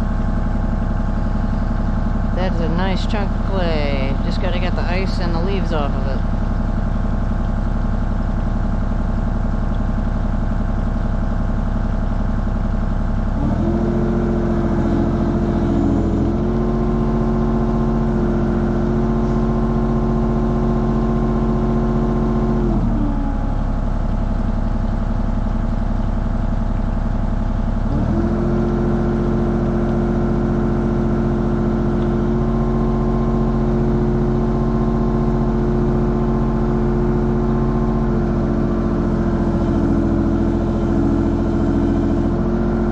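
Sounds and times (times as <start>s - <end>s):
excavator engine running: 0.0s - 42.9s
hydraulics humming under load: 0.0s - 42.9s.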